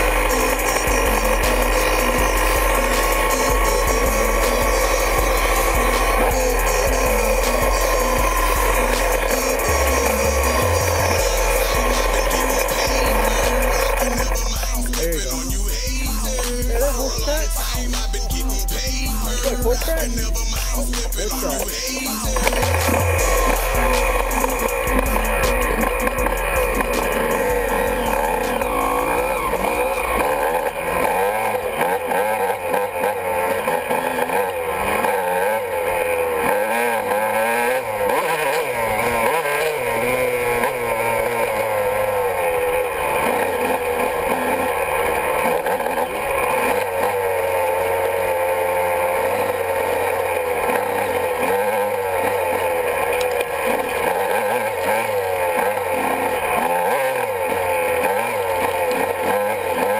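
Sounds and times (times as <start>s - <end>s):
two-stroke dirt bike engine revving: 0.0s - 59.9s.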